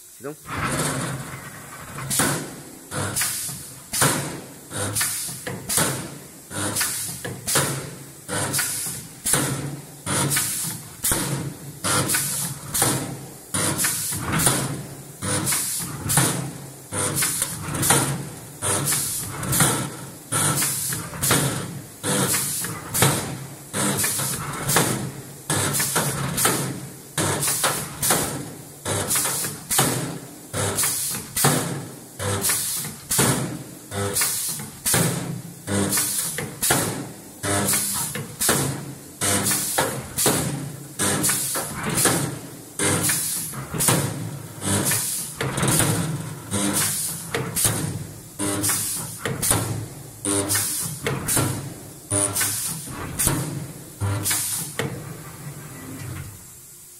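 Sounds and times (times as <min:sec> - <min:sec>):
spot welding bursts: 0:02.1 - 0:54.8.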